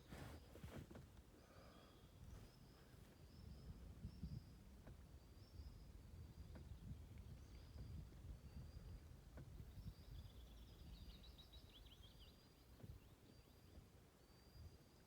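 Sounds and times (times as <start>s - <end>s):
faint birdsong whistles: 1.3s - 15.0s.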